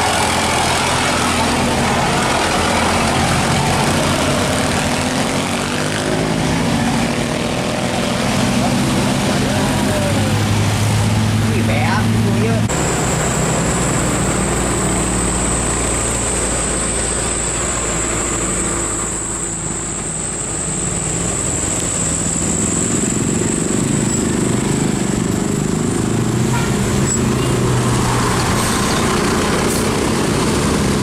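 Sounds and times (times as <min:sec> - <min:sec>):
large vehicle engine running: 0:00.0 - 0:31.0.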